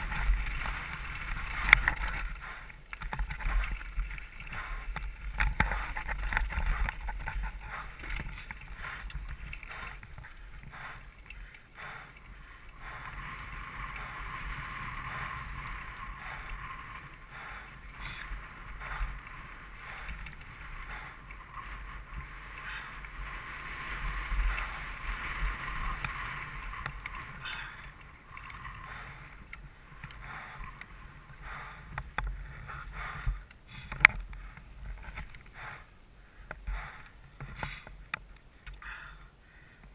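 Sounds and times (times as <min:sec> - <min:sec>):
bike rattling over rocks: 0:00.0 - 0:35.6.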